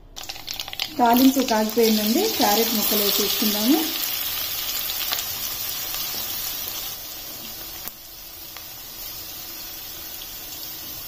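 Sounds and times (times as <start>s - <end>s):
vegetables sizzling in hot oil: 0.2s - 11.0s.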